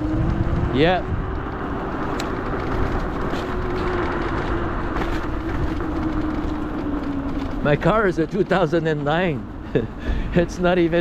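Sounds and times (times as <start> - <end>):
electric scooter motor whine: 0.0 - 11.0
tyres rumbling: 0.0 - 11.0.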